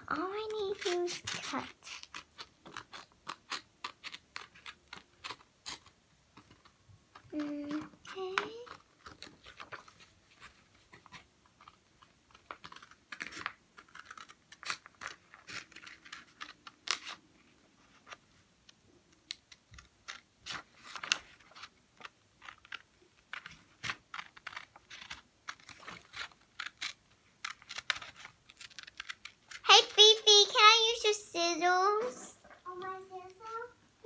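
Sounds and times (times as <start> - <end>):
scissors snipping paper: 0.2 - 17.2, 19.3 - 29.6
paper crinkling: 0.2 - 18.4, 19.3 - 33.2.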